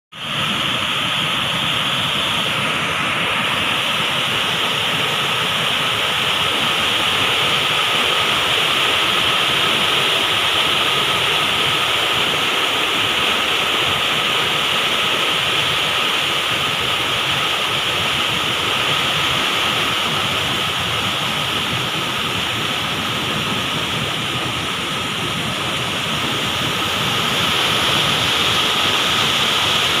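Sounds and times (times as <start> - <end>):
water rushing over weir: 0.1 - 30.0.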